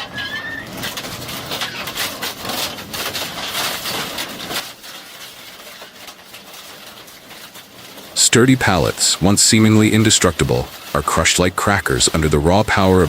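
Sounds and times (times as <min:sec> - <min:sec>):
wood crackling in a shredder: 0:00.0 - 0:13.0.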